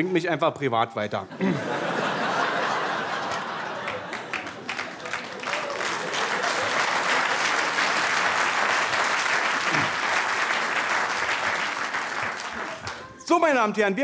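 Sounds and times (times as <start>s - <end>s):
audience applauding: 2.0s - 13.3s.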